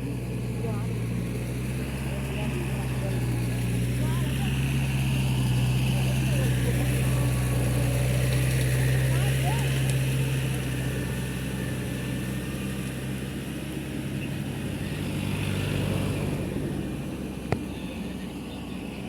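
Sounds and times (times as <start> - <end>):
engine running at low pitch: 0.0 - 19.0.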